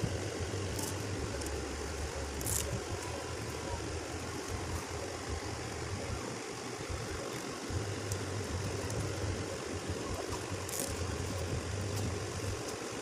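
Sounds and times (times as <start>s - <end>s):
constant hiss: 0.0s - 13.0s
low mechanical hum: 0.0s - 13.0s.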